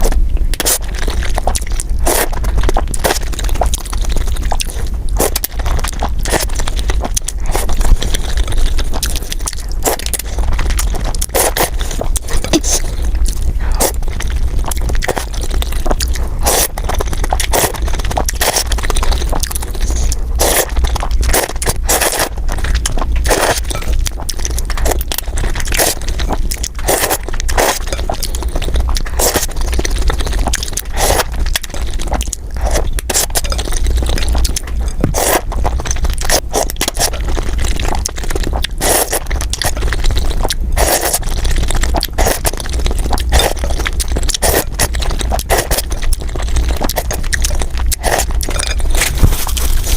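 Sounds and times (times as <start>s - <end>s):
slurping and chewing soup: 0.0s - 49.9s
steady low hum: 0.0s - 49.9s.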